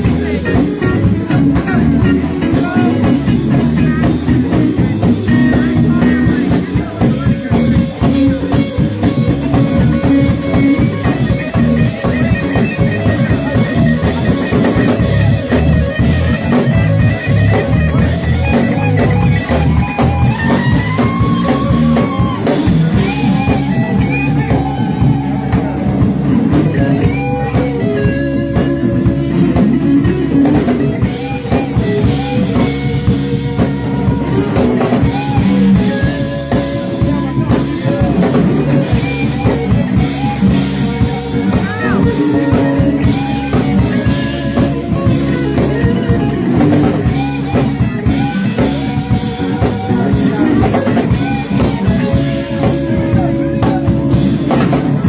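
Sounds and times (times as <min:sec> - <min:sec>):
bass guitar: 0:00.0 - 0:55.0
drum kit: 0:00.0 - 0:55.0
electric guitar lead: 0:00.0 - 0:55.0.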